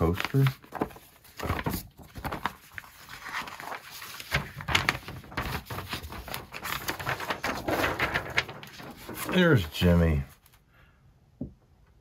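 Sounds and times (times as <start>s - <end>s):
paper rustling and crinkling: 0.0s - 10.6s.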